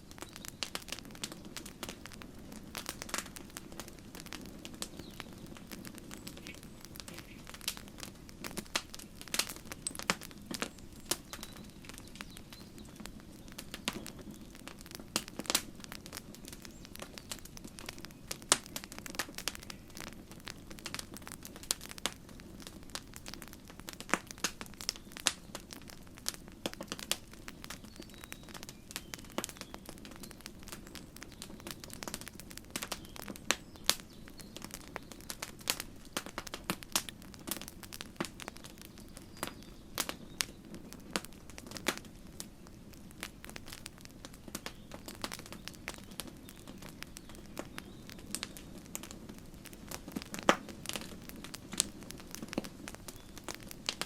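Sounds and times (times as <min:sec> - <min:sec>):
campfire crackling and popping: 0:00.0 - 0:54.0
low rumble of fire: 0:00.0 - 0:54.0.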